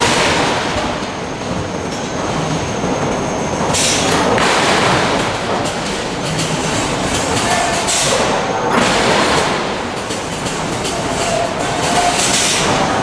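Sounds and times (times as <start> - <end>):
machinery rumble and clatter: 0.0 - 13.0.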